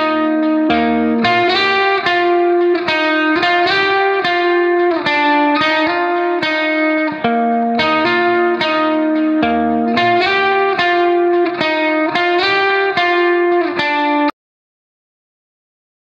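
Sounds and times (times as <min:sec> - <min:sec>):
guitar melody: 0:00.0 - 0:14.4.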